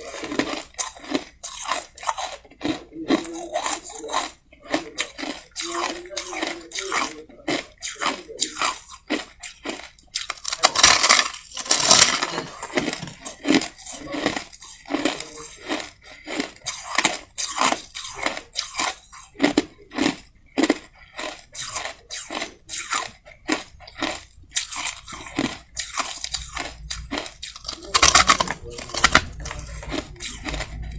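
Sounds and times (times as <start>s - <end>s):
chewing crushed ice: 0.0s - 30.9s.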